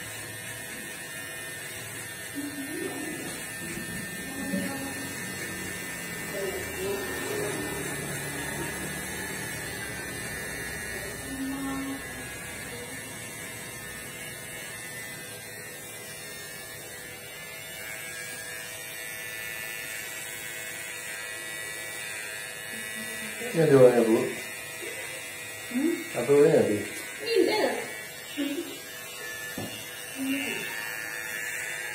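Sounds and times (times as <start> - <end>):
electric hair clipper buzzing: 0.0 - 31.9.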